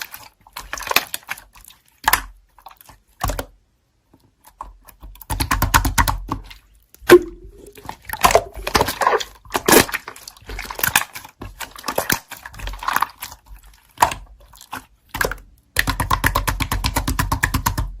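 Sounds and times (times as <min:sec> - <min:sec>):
slime squishing and crackling: 0:00.0 - 0:03.6, 0:04.4 - 0:18.0.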